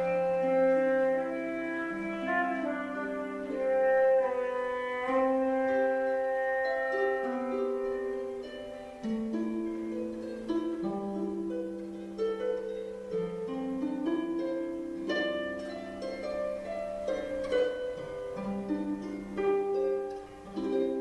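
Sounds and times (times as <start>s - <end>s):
harp plucked notes: 0.0s - 21.0s.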